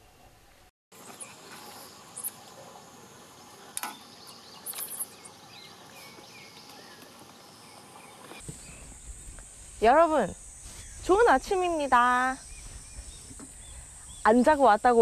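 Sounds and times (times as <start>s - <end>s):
insects chirping: 1.0s - 15.0s.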